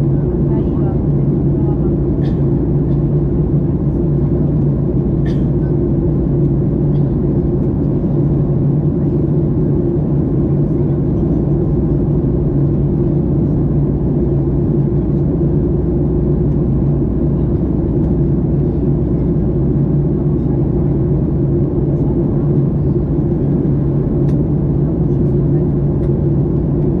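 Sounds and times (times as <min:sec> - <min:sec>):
jet engine drone in cabin: 0:00.0 - 0:27.0
low even hum: 0:00.0 - 0:27.0.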